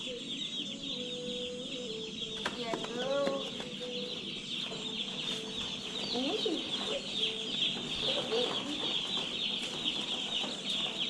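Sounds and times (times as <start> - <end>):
flock of chicks peeping: 0.0 - 11.0.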